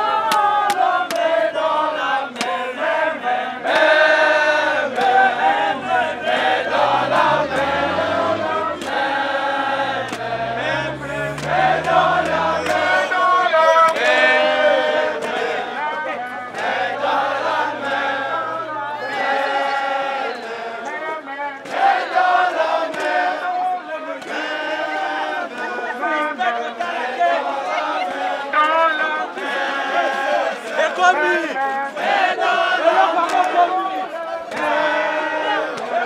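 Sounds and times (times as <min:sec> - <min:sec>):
crowd singing in chorus: 0:00.0 - 0:36.0.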